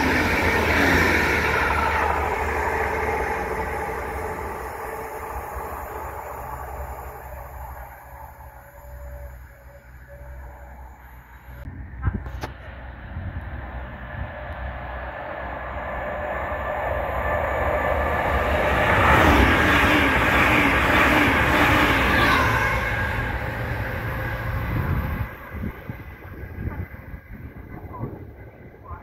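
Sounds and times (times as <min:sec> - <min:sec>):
train wheels rushing on rail: 0:00.0 - 0:09.7, 0:11.2 - 0:29.0.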